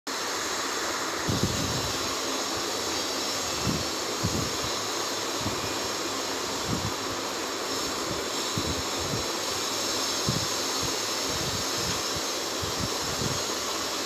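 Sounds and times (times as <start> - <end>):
steady rushing noise: 0.1 - 14.0.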